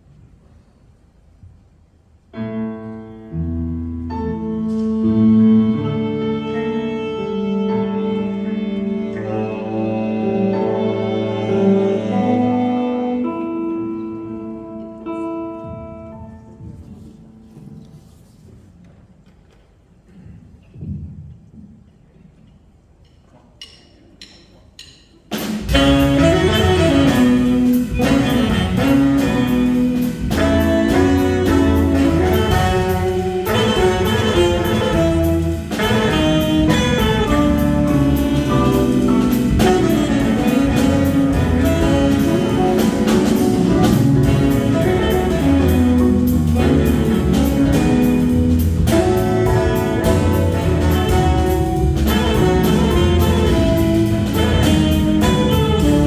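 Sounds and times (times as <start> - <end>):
jazz combo playing: 2.4 - 18.3, 25.3 - 56.0.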